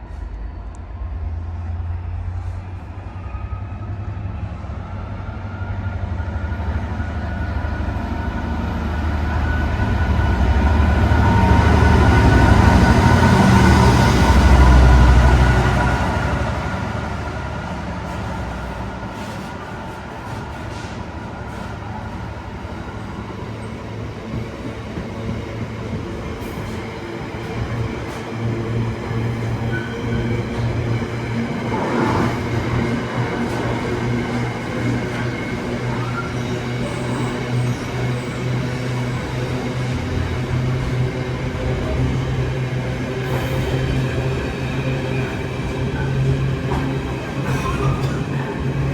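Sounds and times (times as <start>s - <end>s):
diesel train engine drone: 0.0s - 48.9s.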